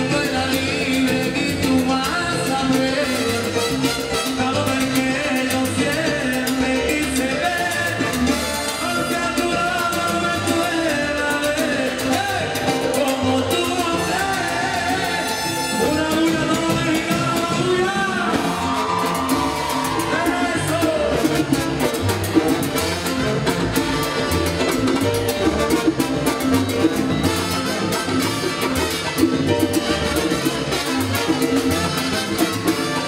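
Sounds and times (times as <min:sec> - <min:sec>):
trumpets and trombones: 0:00.0 - 0:06.4, 0:07.1 - 0:33.0
congas and timbales: 0:00.0 - 0:33.0
salsa band playing: 0:00.0 - 0:33.0.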